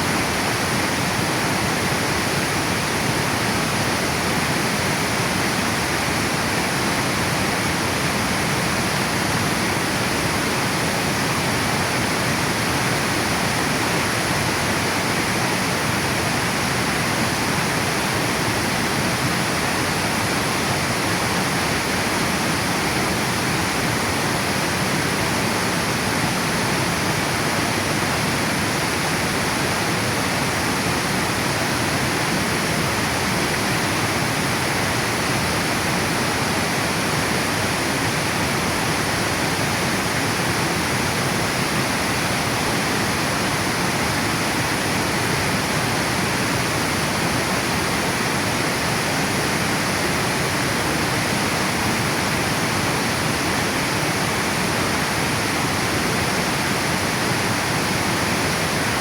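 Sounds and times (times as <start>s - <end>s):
water rushing over a dam: 0.0s - 59.0s.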